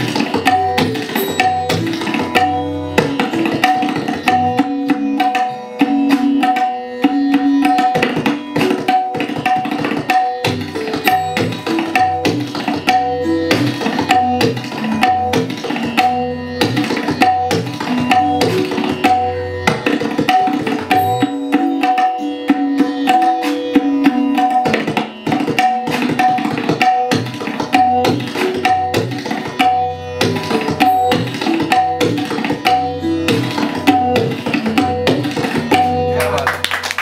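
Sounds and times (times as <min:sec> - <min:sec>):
tabla duet: 0:00.0 - 0:37.0.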